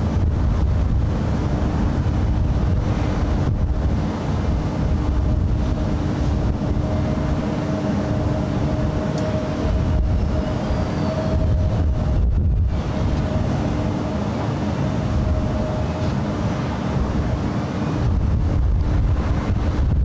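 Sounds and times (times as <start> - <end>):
distant jet engines humming: 0.0 - 20.0
higher engine hum: 0.0 - 20.0
wind rumble on microphone: 0.0 - 20.0.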